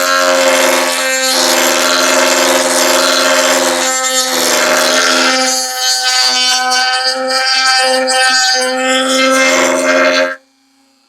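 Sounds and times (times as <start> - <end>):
bit grinding plastic: 0.0 - 10.4
rotary tool whine: 0.0 - 10.8.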